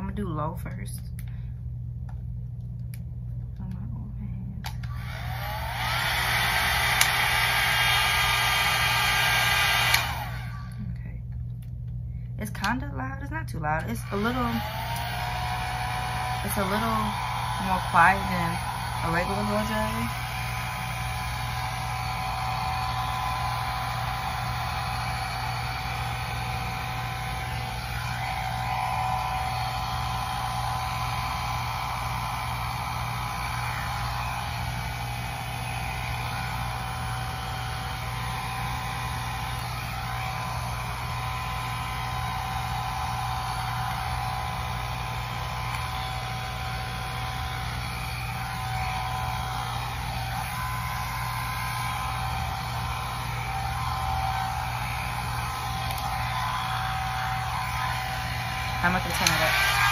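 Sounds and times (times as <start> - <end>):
hot air brush fan running: 4.6 - 59.9.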